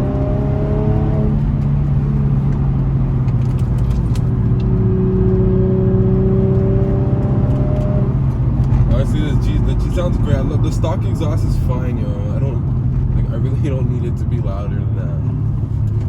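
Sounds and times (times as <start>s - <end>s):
car engine under load: 0.0s - 16.0s.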